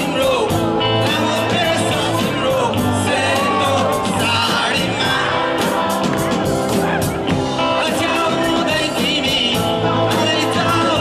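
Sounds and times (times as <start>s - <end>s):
drum kit: 0.0s - 11.0s
electric guitar: 0.0s - 11.0s
person singing: 0.0s - 11.0s.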